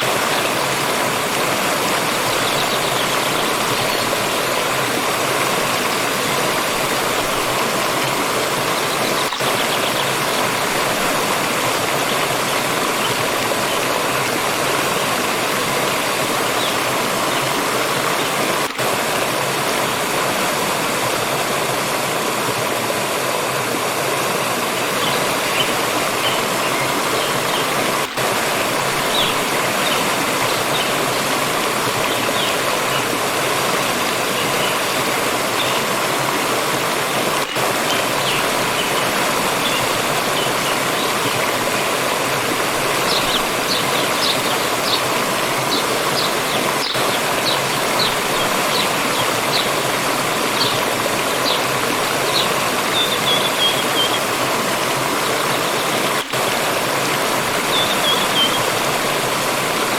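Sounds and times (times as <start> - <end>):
forest stream rushing and splashing: 0.0 - 59.9.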